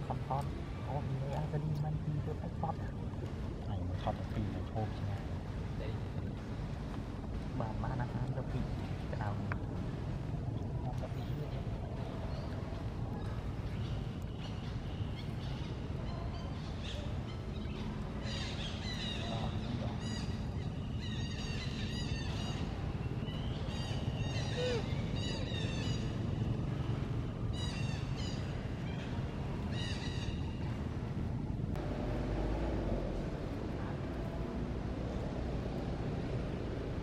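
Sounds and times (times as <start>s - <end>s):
birds chirping: 0.0s - 37.0s
low outdoor rumble: 0.0s - 37.0s.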